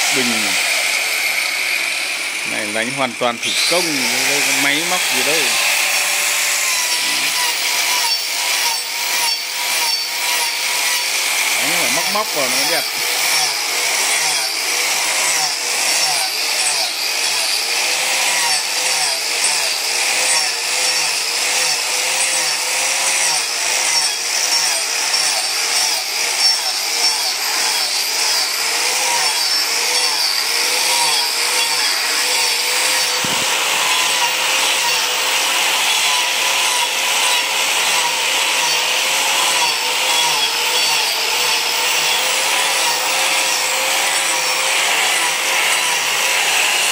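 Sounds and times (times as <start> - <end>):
angle grinder sanding wood: 0.0 - 46.9.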